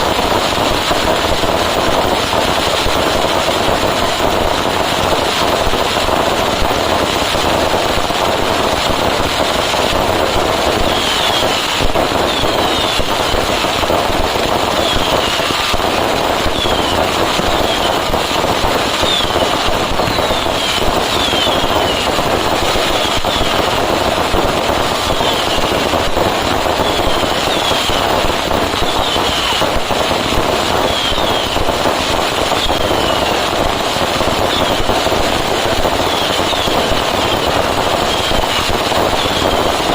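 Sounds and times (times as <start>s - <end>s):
falling firework whistles: 0.0s - 39.9s
firecrackers rattling: 0.0s - 39.9s.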